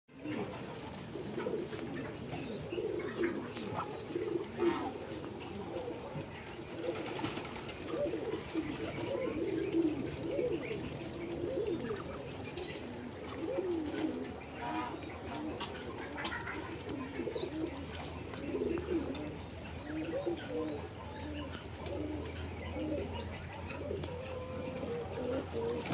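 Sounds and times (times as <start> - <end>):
ducks calling softly: 0.2 - 25.9.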